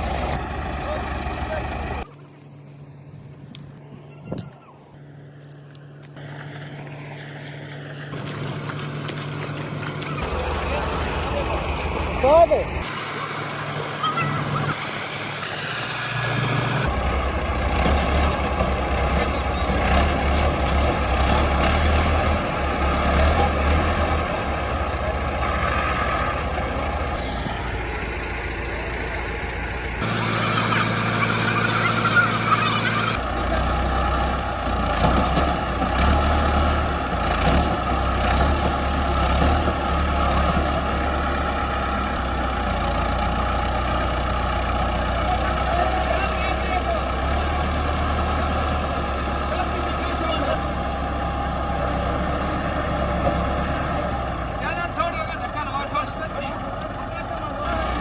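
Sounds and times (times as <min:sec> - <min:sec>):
tractor engines rumbling: 0:00.0 - 0:58.0.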